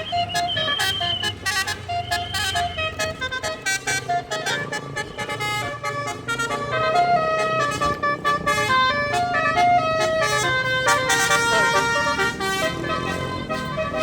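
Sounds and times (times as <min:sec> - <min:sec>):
multi-tone air horn playing a tune: 0:00.0 - 0:14.0.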